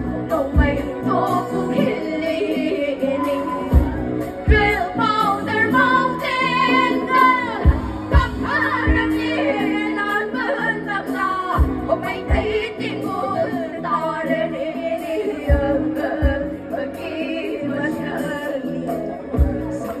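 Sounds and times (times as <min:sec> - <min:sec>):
live band music: 0:00.0 - 0:20.0
woman singing into a microphone: 0:00.0 - 0:20.0.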